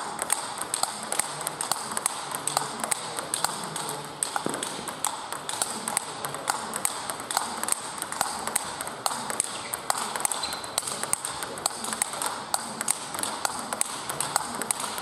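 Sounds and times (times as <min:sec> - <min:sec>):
table tennis ball clicks: 0:00.0 - 0:15.0.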